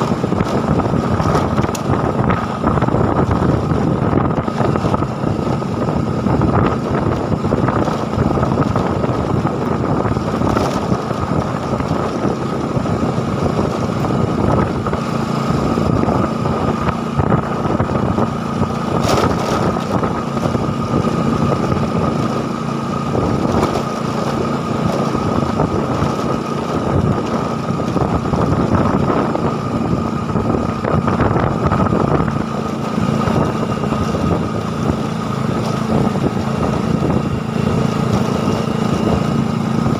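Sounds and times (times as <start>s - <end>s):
small engine running: 0.0s - 39.9s
wind on microphone: 0.0s - 39.9s.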